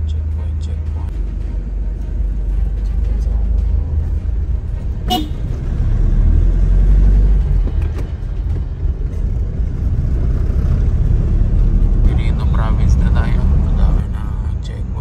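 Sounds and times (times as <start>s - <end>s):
van engine and road noise: 0.0s - 15.0s.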